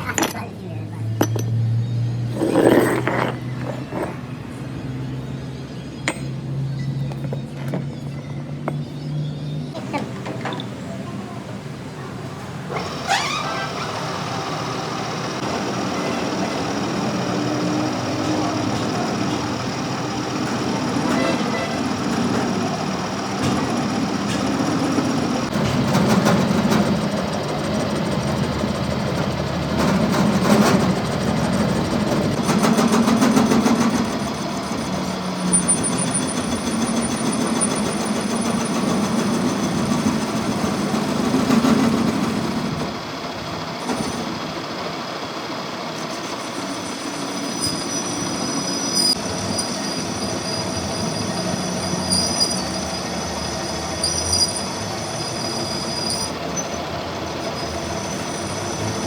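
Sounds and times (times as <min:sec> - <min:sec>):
metalworking machinery humming: 0:00.0 - 0:59.0.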